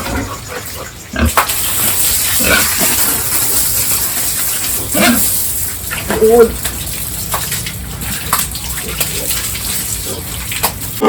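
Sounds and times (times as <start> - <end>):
pigs grunting: 0.0 - 11.0
running water rushing: 1.4 - 11.0.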